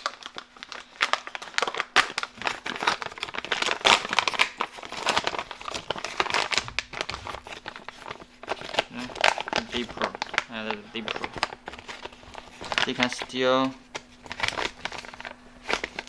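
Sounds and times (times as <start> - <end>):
plastic pouch crinkling: 0.0 - 16.0.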